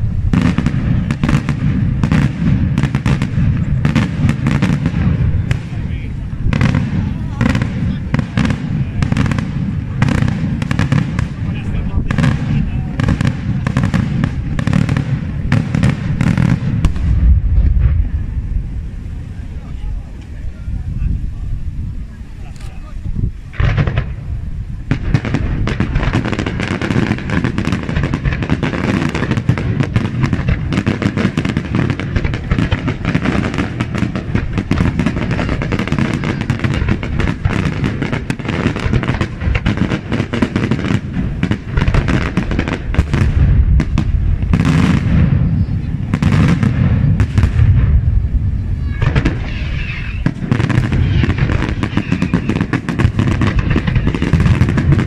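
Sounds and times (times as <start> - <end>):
fireworks barrage: 0.0 - 55.0.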